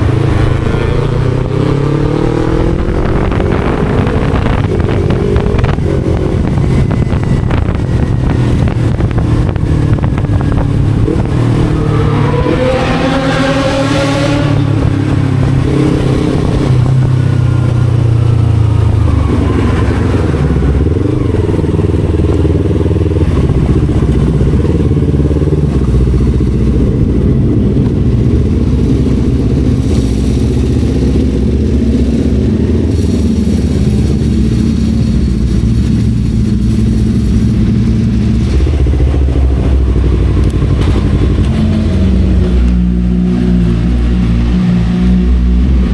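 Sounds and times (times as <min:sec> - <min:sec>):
motorcycle engine and racing exhaust: 0:00.0 - 0:45.9.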